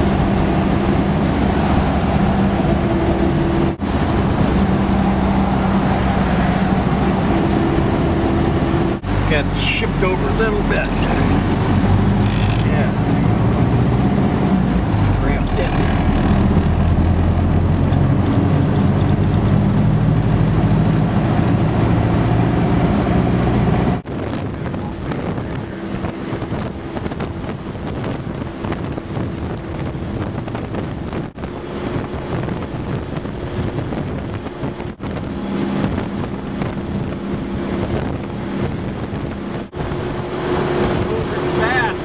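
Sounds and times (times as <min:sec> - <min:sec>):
road and wind noise: 0:00.0 - 0:42.0
vehicle engine hum: 0:00.0 - 0:42.0.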